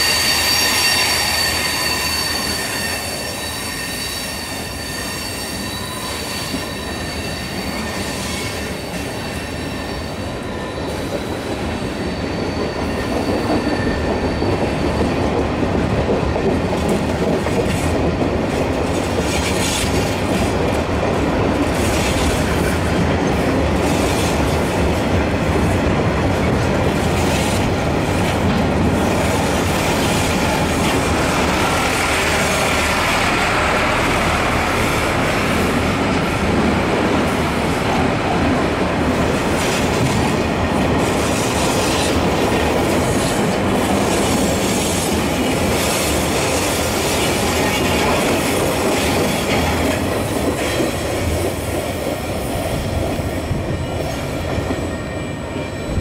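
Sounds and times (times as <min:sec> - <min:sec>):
train wheels squealing: 0:00.0 - 0:17.9, 0:21.8 - 0:56.0
train wheels rumbling on rail: 0:00.0 - 0:56.0.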